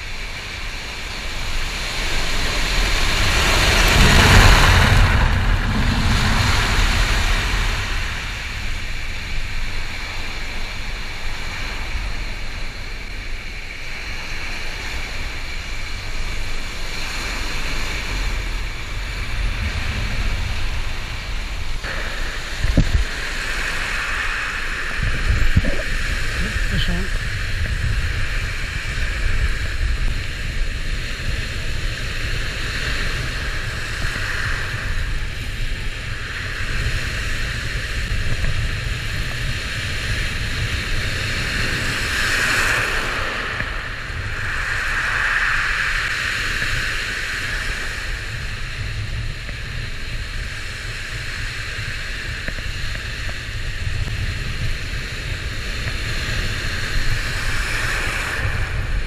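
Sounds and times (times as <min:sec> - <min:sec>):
surf washing on gravel beach: 0:00.0 - 0:59.0
wind on microphone: 0:00.0 - 0:59.0.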